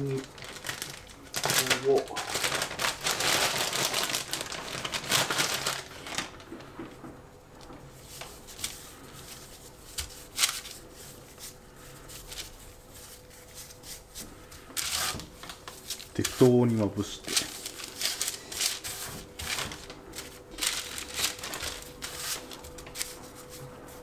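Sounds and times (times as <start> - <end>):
flour bag rustling: 0.0 - 7.0, 7.9 - 24.0.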